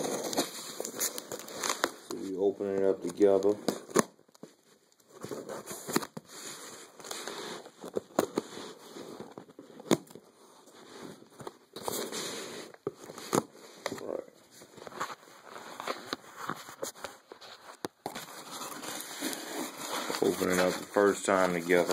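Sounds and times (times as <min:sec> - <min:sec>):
packing rustling and crinkling: 0:00.0 - 0:21.9.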